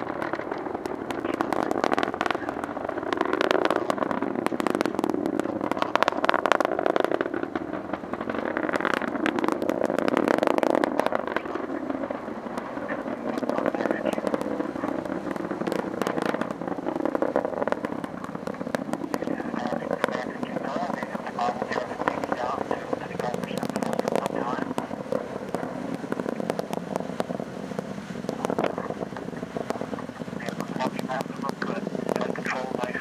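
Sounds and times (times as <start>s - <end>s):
rocket engine crackling rumble: 0.0s - 33.0s.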